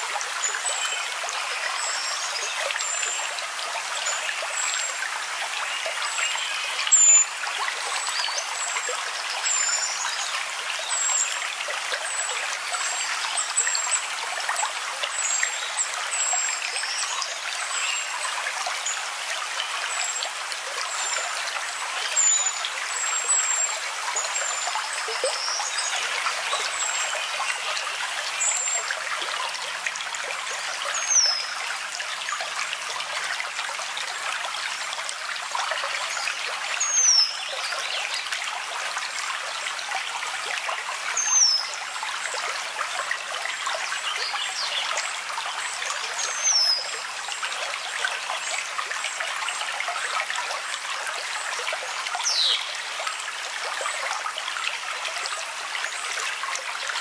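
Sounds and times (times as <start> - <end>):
trickling stream: 0.0 - 57.0.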